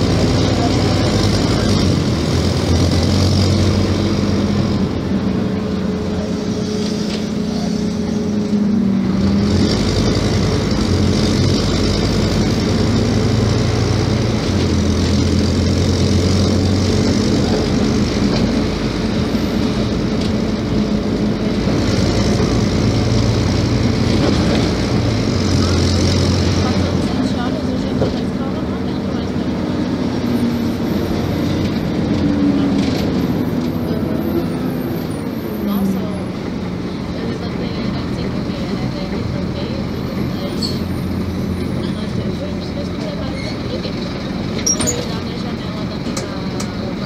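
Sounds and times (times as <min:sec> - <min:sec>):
bus engine droning: 0:00.0 - 0:47.0.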